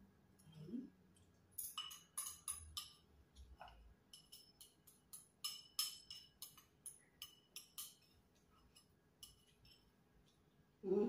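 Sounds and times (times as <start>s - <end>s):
utensil clinking in ceramic bowl: 1.2s - 10.4s.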